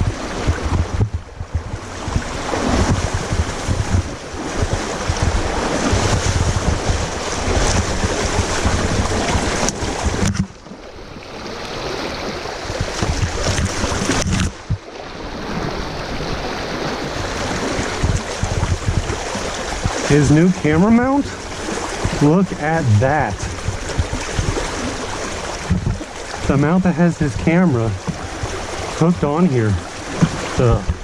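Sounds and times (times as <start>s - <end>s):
river water rushing: 0.0s - 31.0s
wind buffeting microphone: 0.0s - 31.0s.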